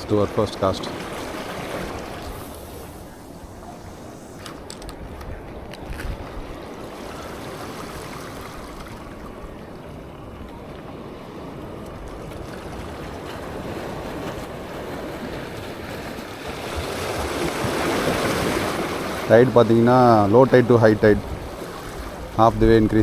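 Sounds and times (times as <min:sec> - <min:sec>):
waves washing: 0:00.0 - 0:23.0
wind buffeting microphone: 0:01.0 - 0:23.0.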